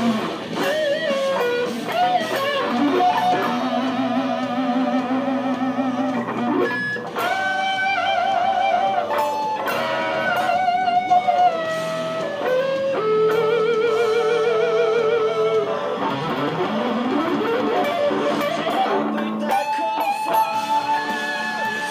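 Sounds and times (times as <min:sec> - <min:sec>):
electric guitar solo: 0:00.0 - 0:21.9.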